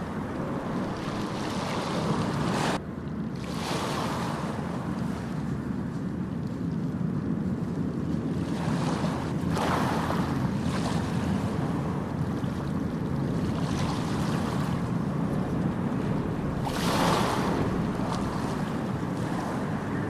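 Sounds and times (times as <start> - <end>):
surf rumbling: 0.0 - 20.0.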